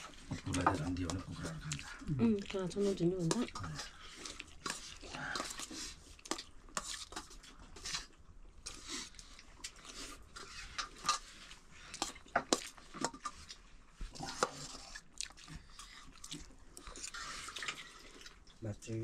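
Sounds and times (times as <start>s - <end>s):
chewing: 0.0s - 18.6s.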